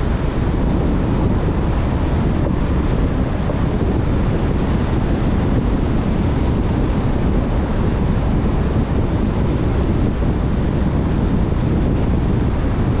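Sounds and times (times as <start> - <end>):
vehicle road noise at speed: 0.0 - 13.0
wind buffeting microphone: 0.0 - 13.0.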